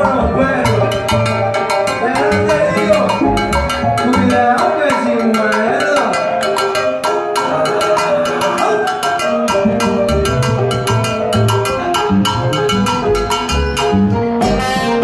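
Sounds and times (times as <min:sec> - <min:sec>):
salsa band playing: 0:00.0 - 0:15.0
sharp percussion strokes: 0:00.7 - 0:14.8.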